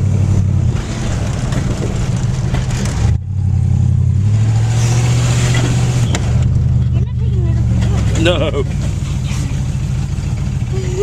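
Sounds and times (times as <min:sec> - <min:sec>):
loud engine without exhaust: 0:00.0 - 0:11.0.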